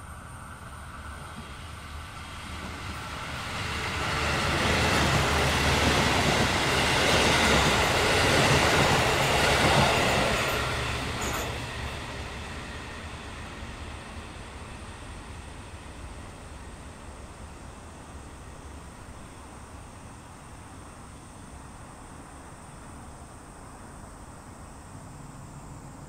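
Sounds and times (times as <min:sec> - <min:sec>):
diesel train passing: 0:00.0 - 0:26.0.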